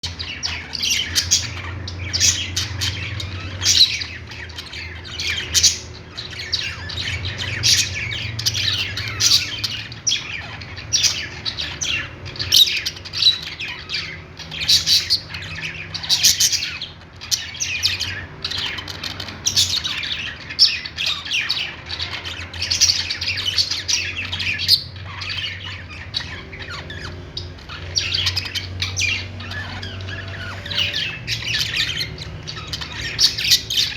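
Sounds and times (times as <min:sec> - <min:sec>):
parrots chirping and squawking: 0:00.0 - 0:33.9.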